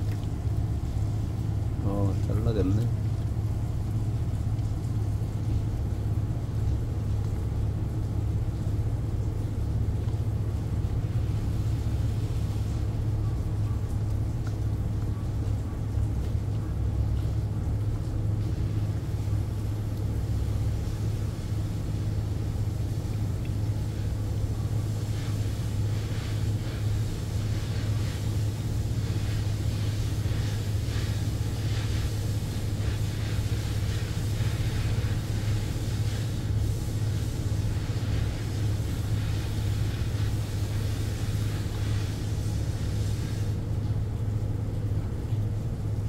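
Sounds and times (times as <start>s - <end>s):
ship machinery drone: 0.0s - 44.5s.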